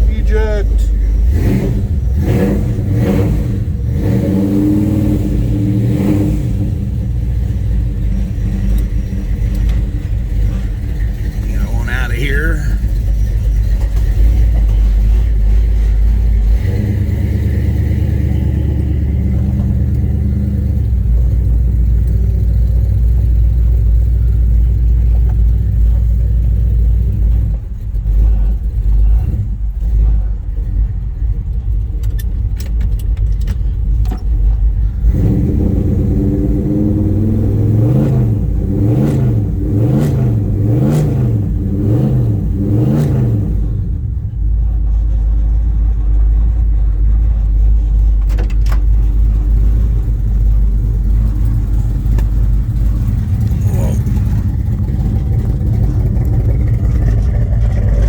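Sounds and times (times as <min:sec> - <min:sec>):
car engine running and revving: 0:00.0 - 0:58.0.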